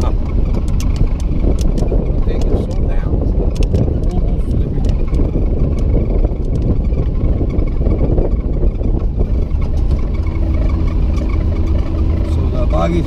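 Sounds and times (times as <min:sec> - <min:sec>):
road noise: 0:00.0 - 0:13.0
truck engine rumbling: 0:00.0 - 0:13.0.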